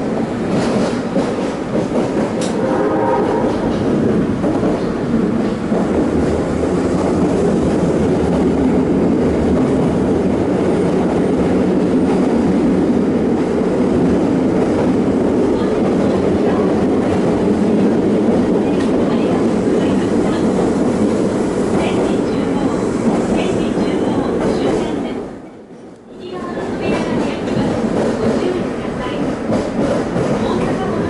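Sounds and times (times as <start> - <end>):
train wheels on rail in tunnel: 0.0 - 31.0.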